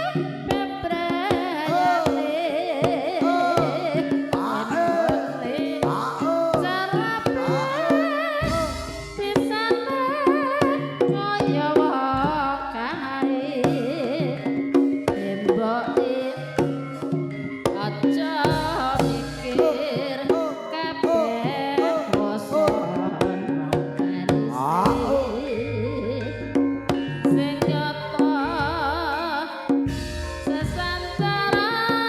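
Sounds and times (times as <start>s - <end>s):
ornamented melody: 0.0s - 31.9s
hand drums busy rhythm: 0.0s - 32.0s.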